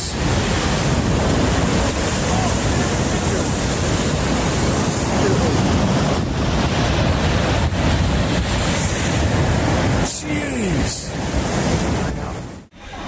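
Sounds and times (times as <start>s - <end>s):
steady rushing noise: 0.0s - 13.0s
wind blowing on microphone: 0.0s - 13.0s.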